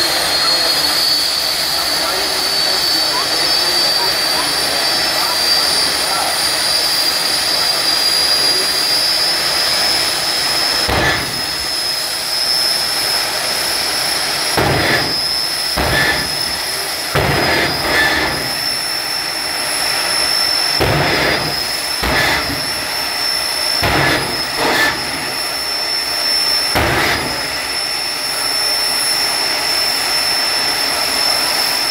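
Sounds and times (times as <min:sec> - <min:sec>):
surges of rushing noise: 0:00.0 - 0:29.2
jet engines idling with whine: 0:00.0 - 0:31.9.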